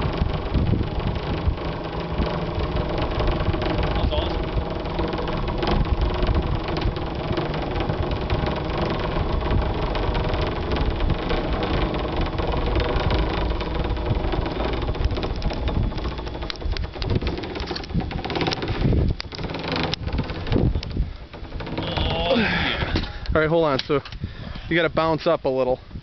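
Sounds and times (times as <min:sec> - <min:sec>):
pulley wheels rolling on cable: 0:00.0 - 0:24.3.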